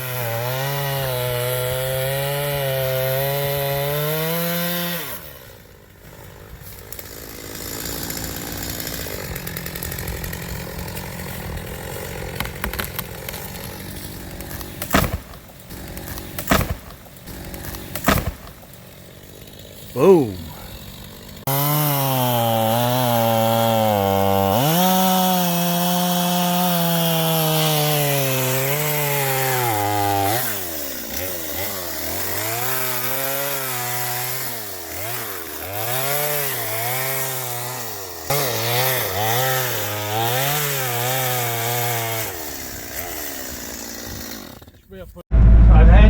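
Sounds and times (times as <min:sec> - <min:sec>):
chainsaw cutting wood: 0:00.0 - 0:45.0.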